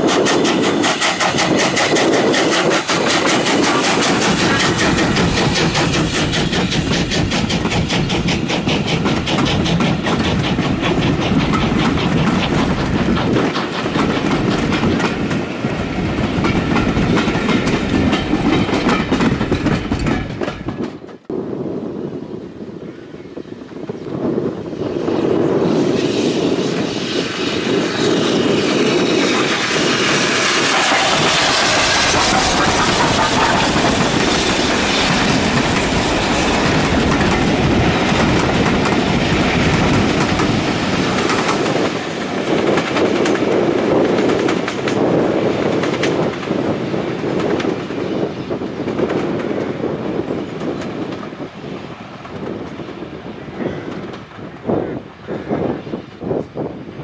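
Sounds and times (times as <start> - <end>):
train passing: 0.0 - 22.8, 23.4 - 57.0.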